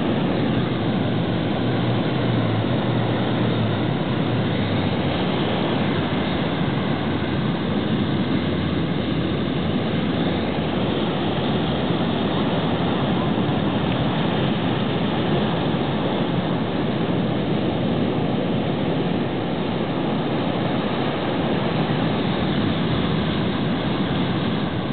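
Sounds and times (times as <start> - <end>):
heavy surf breaking: 0.0 - 24.9.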